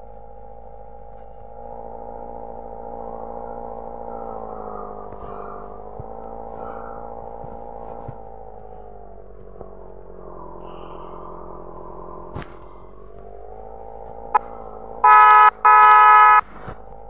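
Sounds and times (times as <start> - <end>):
vehicle engine droning hum: 0.0 - 17.0.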